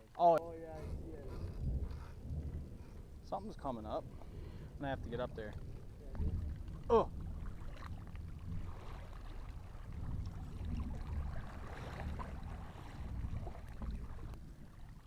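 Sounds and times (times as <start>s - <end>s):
water sloshing and splashing: 0.0s - 15.0s
wind buffeting microphone: 0.0s - 15.0s.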